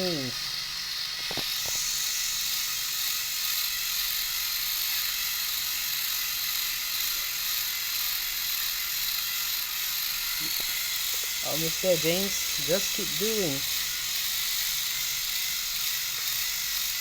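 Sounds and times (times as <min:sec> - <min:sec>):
toy train motors whirring: 0:00.0 - 0:17.0.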